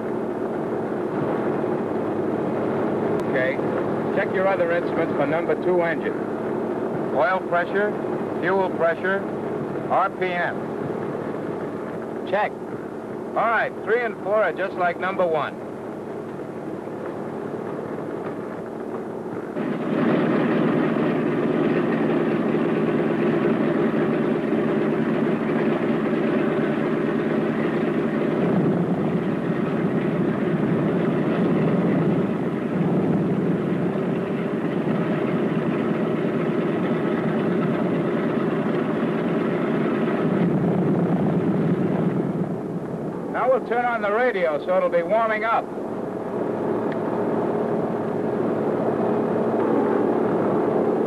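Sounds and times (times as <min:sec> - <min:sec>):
aircraft engine starting up: 0:00.0 - 0:51.0
radial aircraft engines idling: 0:00.0 - 0:51.0.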